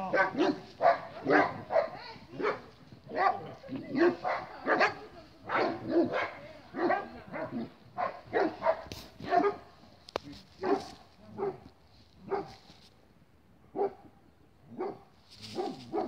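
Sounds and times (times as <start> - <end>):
large dogs barking: 0.0 - 9.8, 10.6 - 12.6, 13.7 - 14.1, 14.7 - 16.0.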